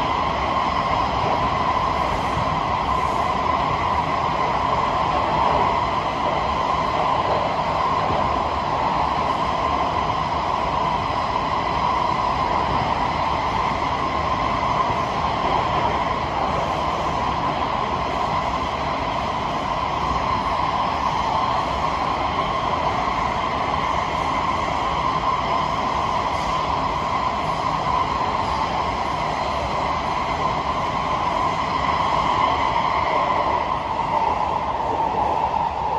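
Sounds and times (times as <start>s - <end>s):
steady train whine: 0.0s - 35.9s
wheels rumbling on rail: 0.0s - 35.9s.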